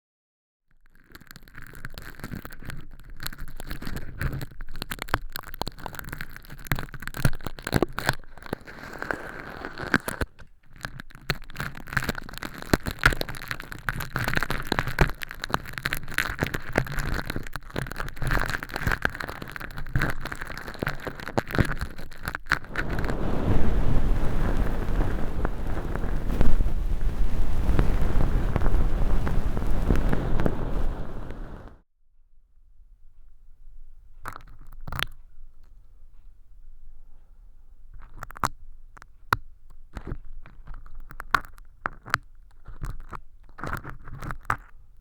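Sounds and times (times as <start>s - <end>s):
crinkly film crackling: 0.8s - 31.8s, 38.0s - 44.9s.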